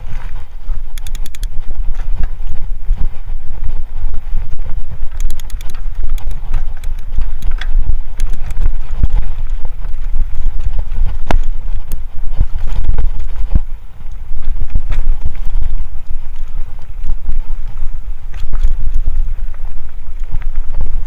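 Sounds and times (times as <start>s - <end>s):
bike rattling with clicks and knocks: 0.0s - 21.0s
wind buffeting microphone: 0.0s - 21.0s.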